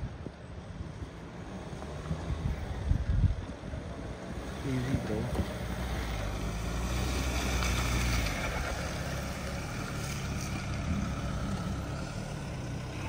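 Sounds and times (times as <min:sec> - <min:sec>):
suv engine droning: 0:01.4 - 0:13.0.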